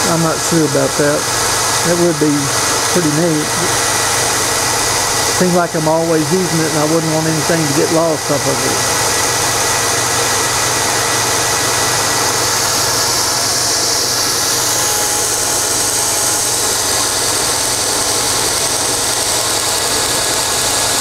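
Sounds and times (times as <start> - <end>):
belt grinder running: 0.0 - 21.0.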